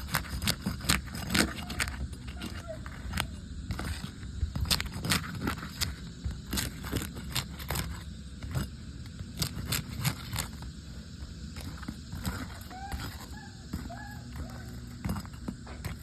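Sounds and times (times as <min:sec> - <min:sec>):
clicks and scrapes on shingles: 0:00.0 - 0:16.0.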